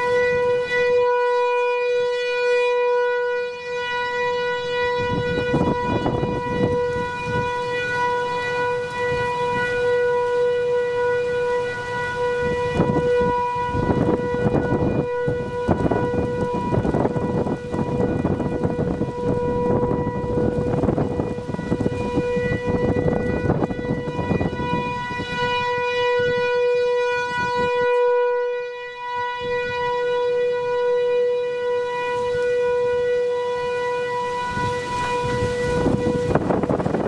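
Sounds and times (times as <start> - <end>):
warning siren steady tone: 0.0 - 37.0
wind buffeting microphone: 4.4 - 37.0.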